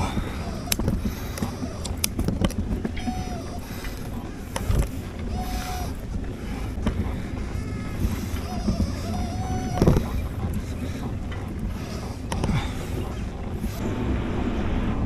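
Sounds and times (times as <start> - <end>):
bicycle road rumble: 0.0 - 15.0
wind on microphone: 0.0 - 15.0.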